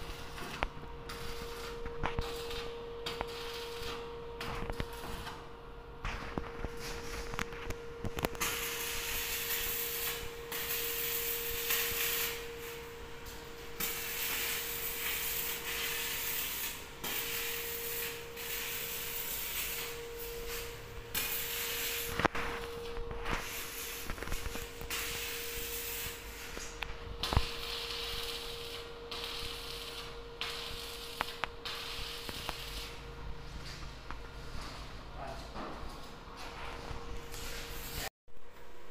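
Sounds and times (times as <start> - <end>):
welding arc crackling: 0.0 - 34.9, 37.2 - 38.1
steady hum: 0.0 - 38.9.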